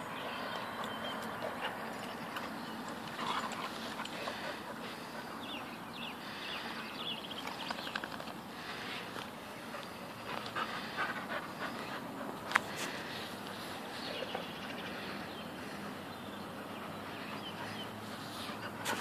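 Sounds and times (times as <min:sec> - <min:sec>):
dogs panting hard: 0:00.6 - 0:07.4, 0:08.6 - 0:19.0.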